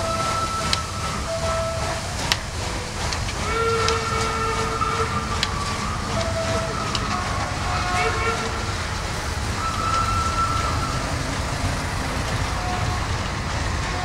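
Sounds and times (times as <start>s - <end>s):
thin high tones: 0.0s - 14.0s
train rumble and hiss: 0.0s - 14.0s.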